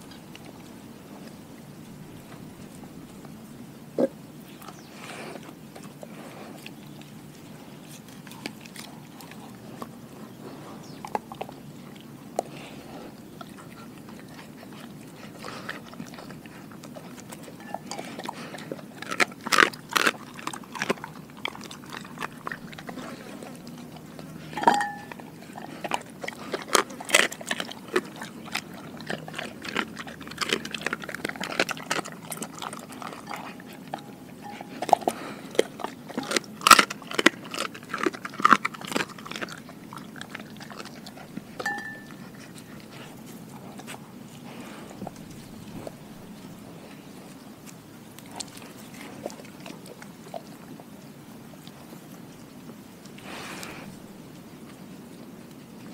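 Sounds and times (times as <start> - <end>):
dog chewing wet food: 0.0 - 55.9.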